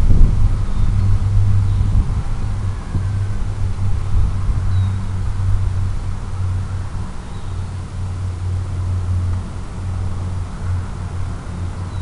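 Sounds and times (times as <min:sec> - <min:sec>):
quadcopter motors droning: 0:00.0 - 0:12.0.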